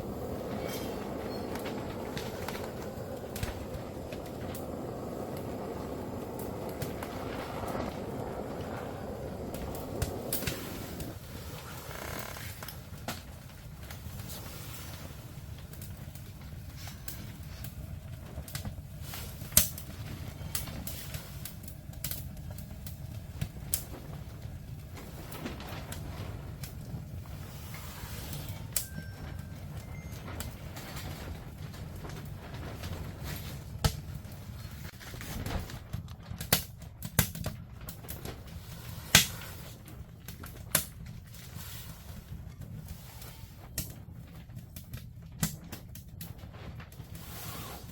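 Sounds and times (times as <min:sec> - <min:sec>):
low steady rumble: 0:00.0 - 0:47.7
wood fire crackling: 0:00.0 - 0:47.9
sharp pops of fire: 0:00.2 - 0:29.0, 0:31.9 - 0:41.6, 0:42.6 - 0:47.9.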